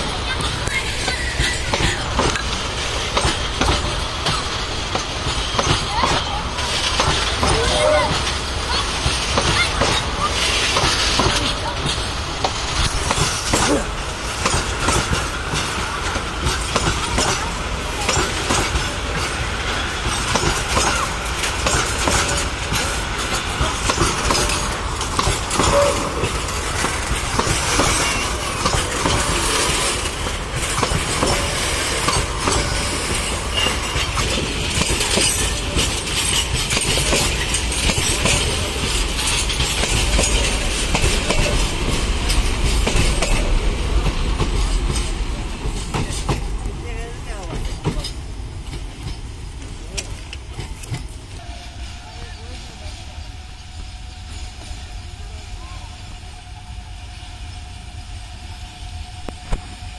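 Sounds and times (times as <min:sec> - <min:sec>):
wheels clicking over rail joints: 0:00.0 - 0:51.4
train wheels rumbling on rail: 0:00.0 - 0:59.9.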